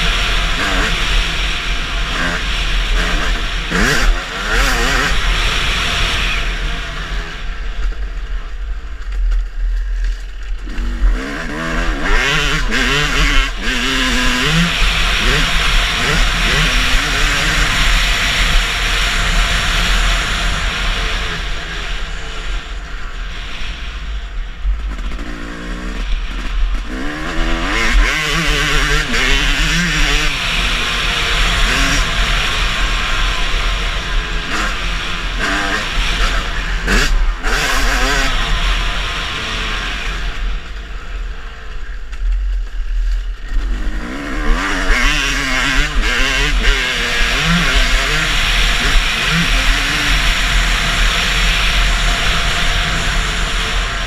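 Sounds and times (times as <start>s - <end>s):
motocross bike engine revving: 0.0s - 54.0s
steady rushing noise: 0.0s - 54.0s.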